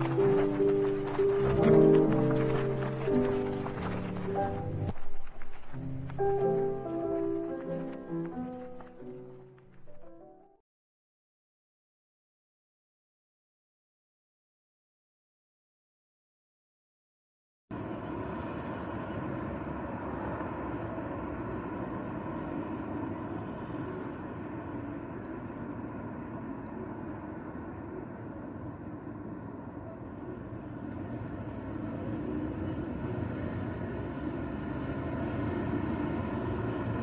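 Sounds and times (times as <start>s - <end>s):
distant traffic: 0.0s - 10.5s, 17.7s - 37.0s.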